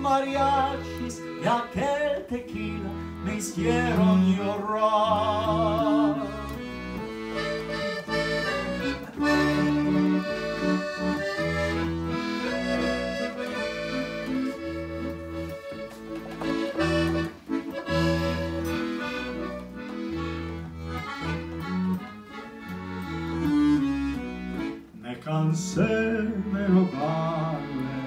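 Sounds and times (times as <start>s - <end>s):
accordion playing: 0.0s - 28.0s
acoustic guitar accompanying: 0.0s - 28.0s.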